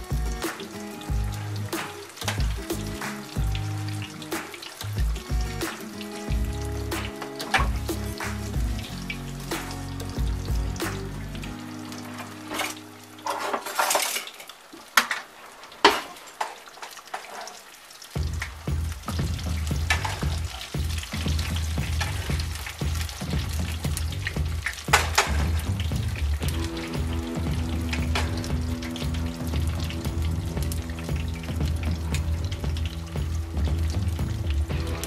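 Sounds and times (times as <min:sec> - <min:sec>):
fish deep-frying in oil: 0:00.0 - 0:35.0.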